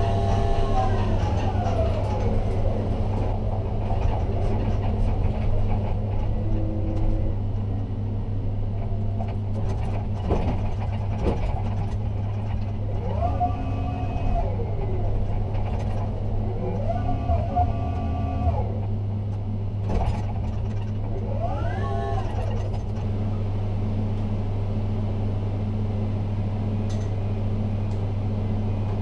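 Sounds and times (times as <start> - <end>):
crane steady low hum: 0.0 - 29.0.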